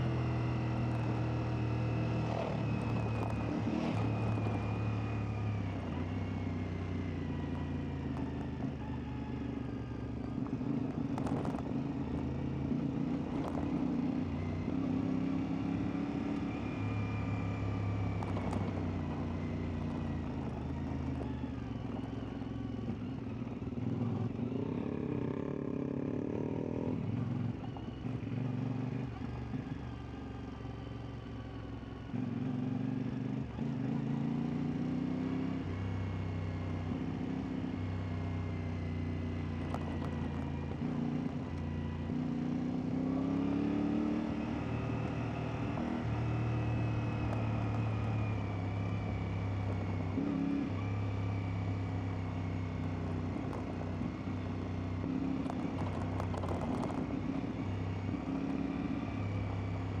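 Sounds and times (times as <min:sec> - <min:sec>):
motorcycle engine revving: 0:00.0 - 0:30.6, 0:31.2 - 1:00.0.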